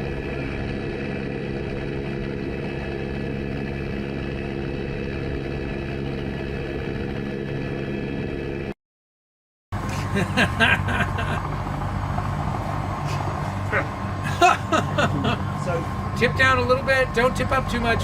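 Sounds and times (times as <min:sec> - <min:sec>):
helicopter engine drone and whine: 0:00.0 - 0:08.8, 0:09.8 - 0:18.0.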